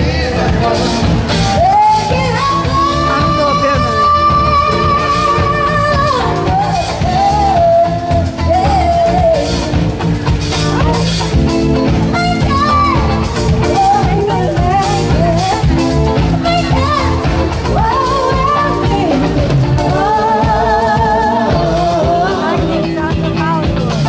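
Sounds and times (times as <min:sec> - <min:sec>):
drums bass and guitar: 0:00.0 - 0:24.0
person singing: 0:00.0 - 0:24.0.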